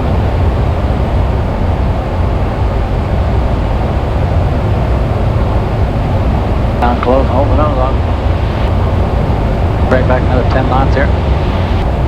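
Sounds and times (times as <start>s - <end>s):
airplane engine droning: 0.0s - 12.0s
wind noise: 0.0s - 12.0s.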